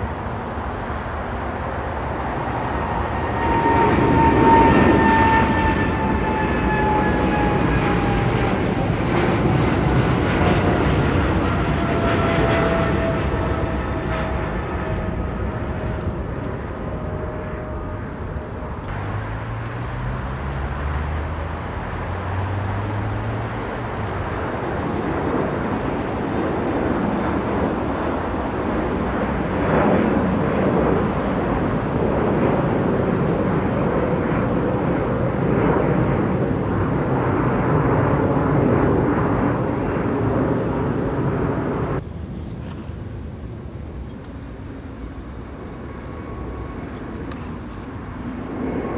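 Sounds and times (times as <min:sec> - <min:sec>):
jet airliner passing: 0:00.0 - 0:48.9.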